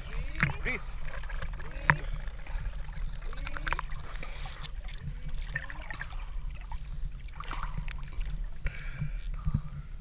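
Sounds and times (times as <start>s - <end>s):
low rumble of water on microphone: 0.0s - 10.0s
water lapping and splashing: 0.0s - 10.0s.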